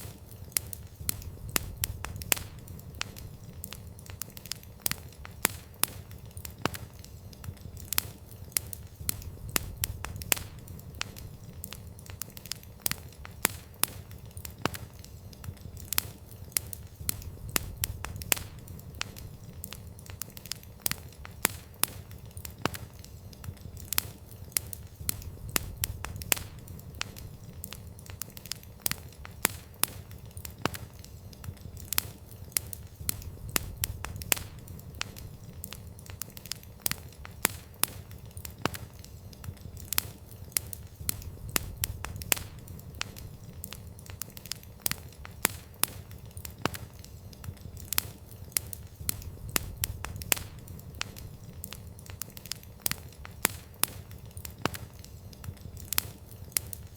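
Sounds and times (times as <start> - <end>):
low rumble of flames: 0.0 - 56.9
wood crackling and popping: 0.0 - 56.9.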